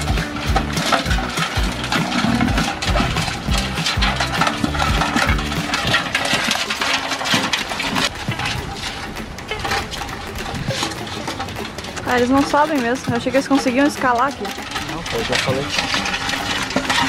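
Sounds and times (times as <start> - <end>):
crabs clattering in metal bucket: 0.0 - 17.0.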